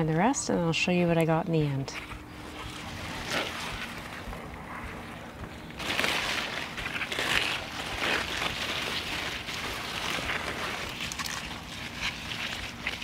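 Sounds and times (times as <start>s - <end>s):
digging in soil by hand: 1.1s - 13.0s
foliage rustling: 1.9s - 13.0s.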